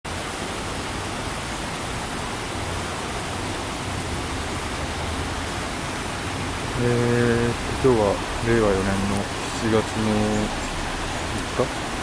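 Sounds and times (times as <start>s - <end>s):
rain falling on river: 0.1s - 12.0s
rushing water: 0.1s - 12.0s.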